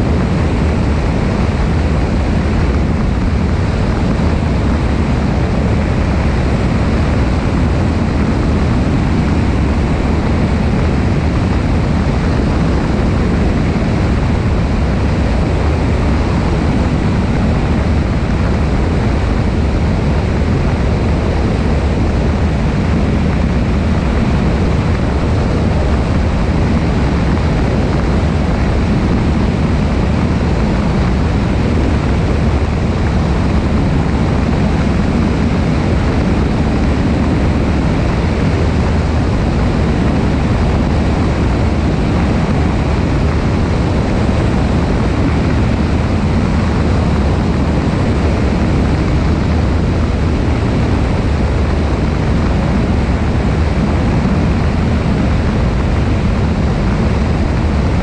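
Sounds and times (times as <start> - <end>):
propeller plane engine droning: 0.0 - 58.0
wind rushing past: 0.0 - 58.0.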